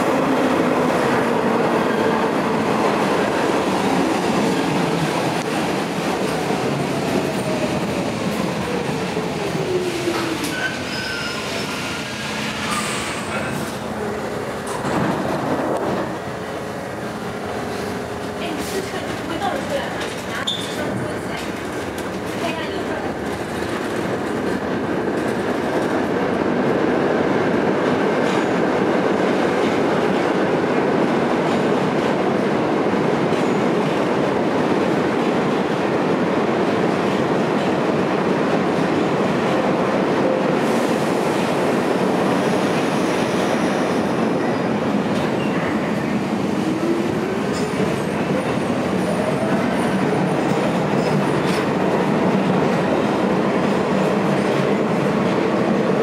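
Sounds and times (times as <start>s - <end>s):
subway train rumble and rattle: 0.0s - 56.0s.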